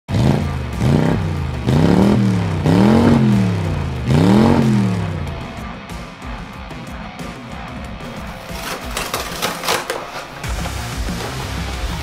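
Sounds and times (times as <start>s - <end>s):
race car engine revving: 0.1s - 12.0s.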